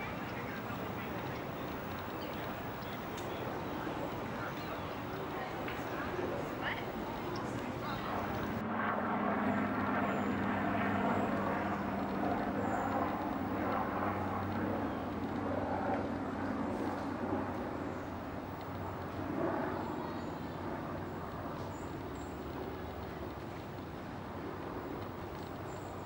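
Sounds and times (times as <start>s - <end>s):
distant city traffic rumble: 0.0s - 26.0s.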